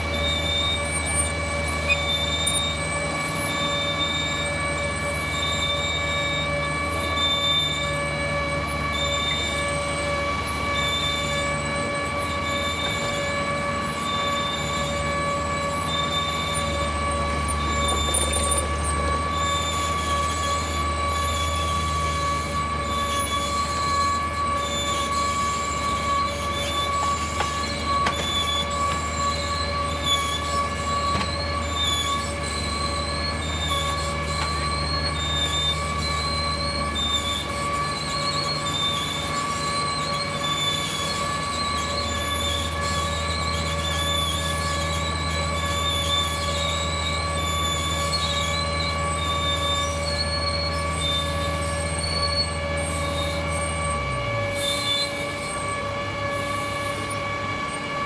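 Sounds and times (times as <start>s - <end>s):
diesel engine running: 0.0s - 58.0s
high-pitched machine whine: 0.0s - 58.0s.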